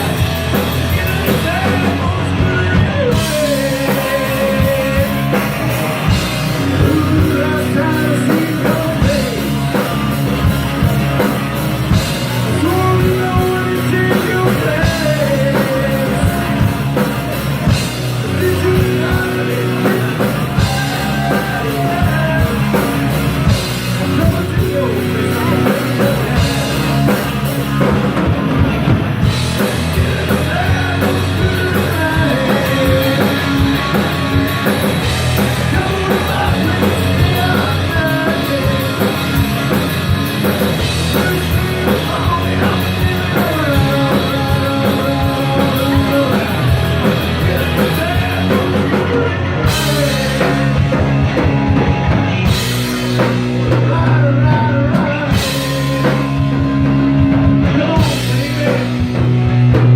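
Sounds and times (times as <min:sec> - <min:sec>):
person singing: 0:00.0 - 0:59.2
drum kit: 0:00.0 - 0:59.9
live rock band playing: 0:00.0 - 0:59.9.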